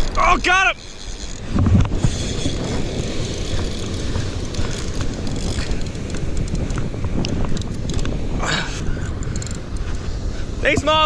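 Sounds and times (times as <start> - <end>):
fishing reel ratcheting and whirring: 0.0 - 10.0
wind rumbling on microphone: 0.0 - 11.0.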